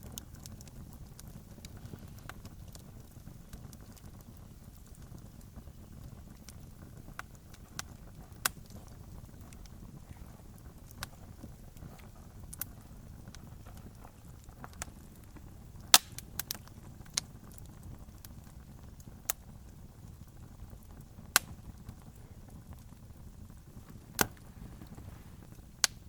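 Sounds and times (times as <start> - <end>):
campfire rumble: 0.0 - 26.0
wood popping and snapping: 0.1 - 18.4, 20.8 - 22.2, 23.8 - 26.0.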